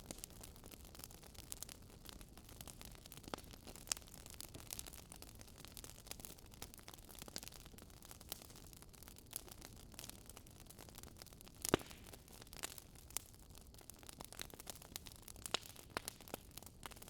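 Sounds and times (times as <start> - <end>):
faint wood fire crackling: 0.0 - 17.0.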